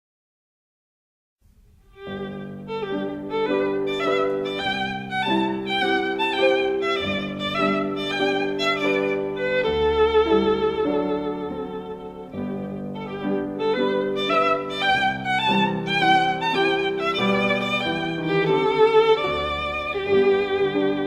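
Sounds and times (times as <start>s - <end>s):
violin melody with vibrato: 1.8s - 21.0s.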